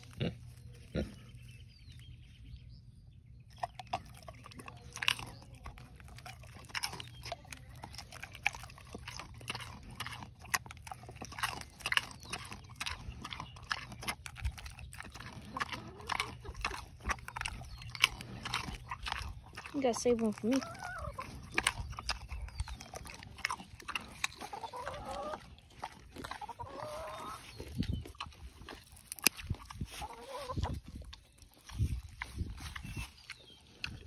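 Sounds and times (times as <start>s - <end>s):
pig crunching and chewing: 0.0s - 34.0s.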